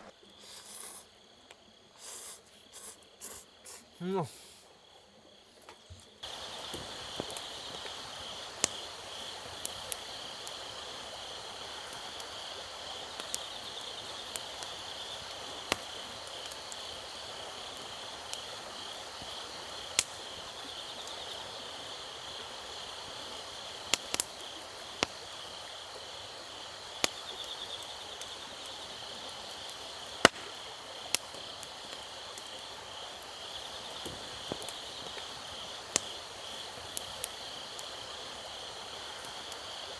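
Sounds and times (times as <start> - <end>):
campfire crackling and popping: 0.0 - 4.2, 5.3 - 39.9
crickets chirping: 0.0 - 39.9.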